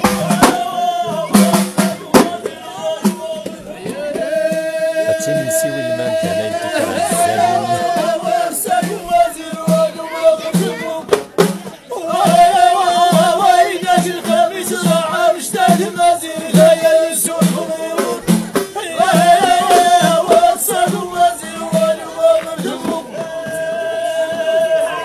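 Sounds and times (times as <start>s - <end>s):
frame drum beats: 0.0s - 23.2s
men chanting together: 0.2s - 11.2s, 11.9s - 25.0s.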